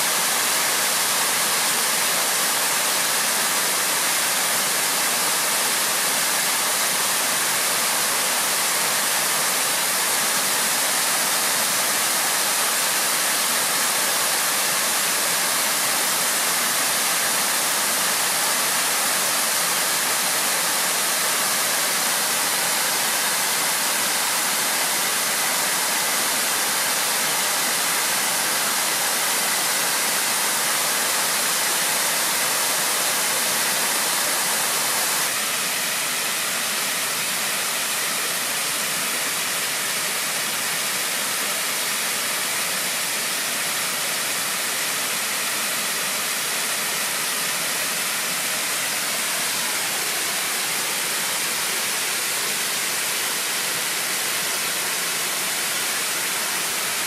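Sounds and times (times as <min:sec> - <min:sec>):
waterfall rushing onto rocks: 0:00.0 - 0:57.0.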